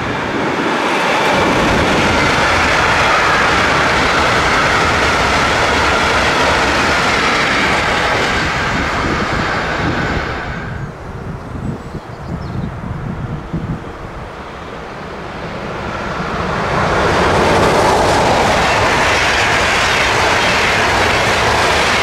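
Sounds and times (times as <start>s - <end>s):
freight train wheels on rail: 0.0s - 22.0s
wind noise on microphone: 0.0s - 22.0s.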